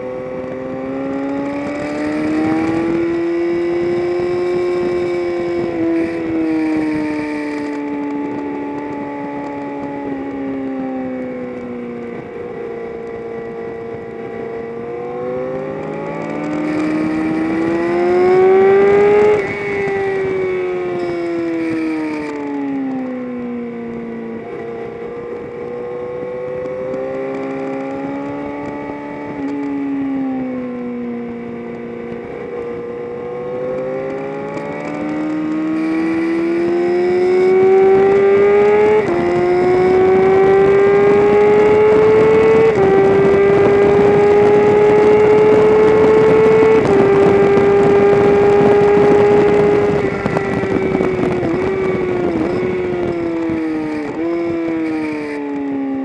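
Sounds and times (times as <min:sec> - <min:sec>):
racing car engine shifting gears: 0:00.2 - 0:10.2, 0:11.5 - 0:22.8, 0:31.6 - 0:56.0.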